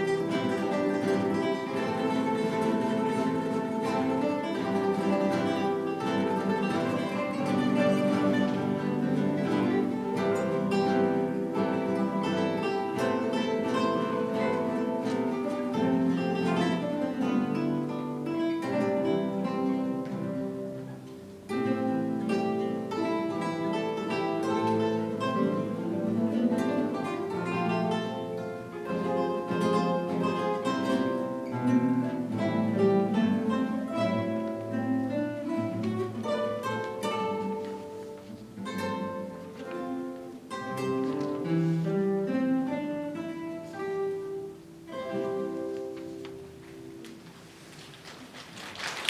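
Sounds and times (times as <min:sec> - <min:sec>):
classical guitar ensemble: 0:00.0 - 0:49.0.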